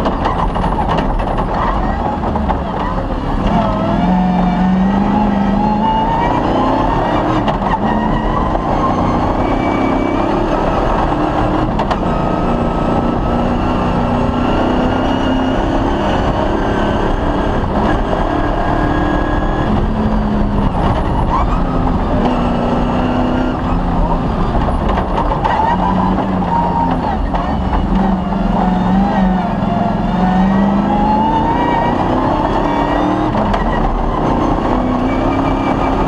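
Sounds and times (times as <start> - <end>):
rally car engine revving and shifting: 0.0 - 36.0
road and wind noise: 0.0 - 36.0.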